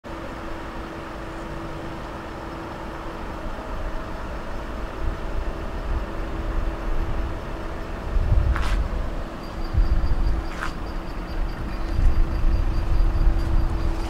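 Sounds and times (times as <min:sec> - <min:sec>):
faint steady hum: 0:00.1 - 0:14.0
low vehicle rumble: 0:00.1 - 0:14.0.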